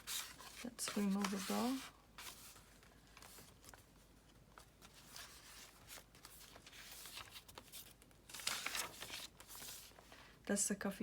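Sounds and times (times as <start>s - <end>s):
paper rustling and crinkling: 0.0s - 10.1s.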